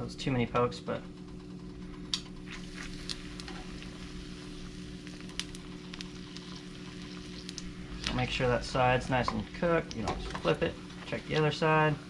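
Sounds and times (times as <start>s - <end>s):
faint low hum: 0.0s - 12.0s
oil crackles and pops: 1.2s - 11.9s
tortilla sizzling in hot oil: 2.3s - 12.0s.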